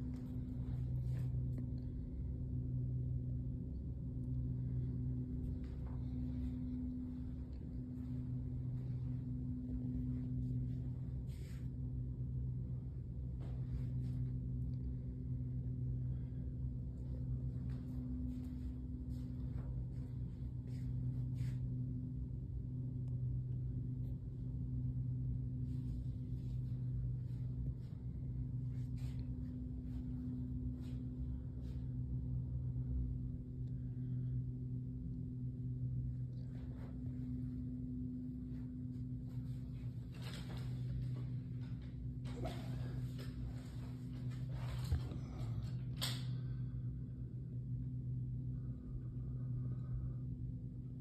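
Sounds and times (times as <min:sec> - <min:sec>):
low room hum with deep tone: 0:00.0 - 0:51.0.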